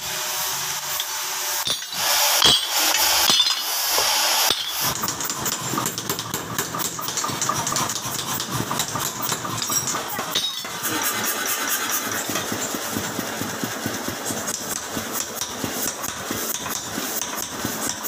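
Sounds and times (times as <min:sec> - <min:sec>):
workshop machinery clattering: 0:00.8 - 0:18.0
hammer striking metal chisel: 0:00.9 - 0:10.8, 0:12.1 - 0:18.0.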